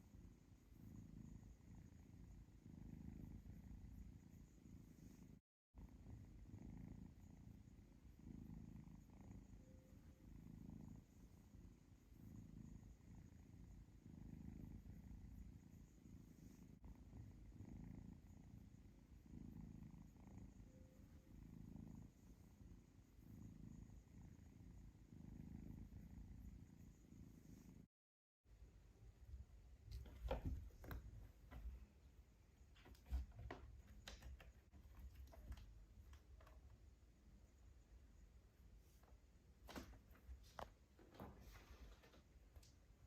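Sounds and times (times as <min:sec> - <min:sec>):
kitten purring: 0:00.0 - 0:27.9, 0:29.0 - 0:43.0.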